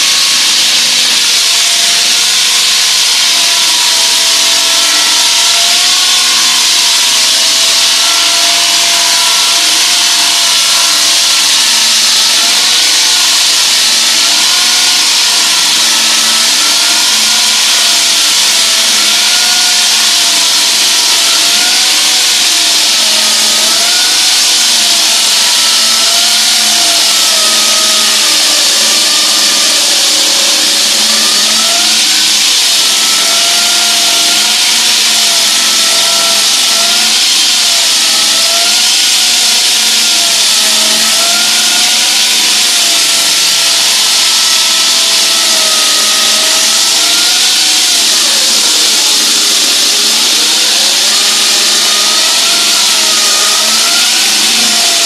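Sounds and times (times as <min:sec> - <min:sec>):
saw blade grinding concrete: 0:00.0 - 0:55.0.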